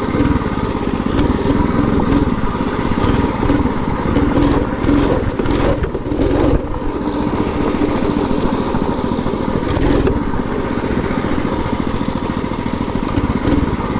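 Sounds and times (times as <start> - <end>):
minibike engine running: 0.0 - 13.9.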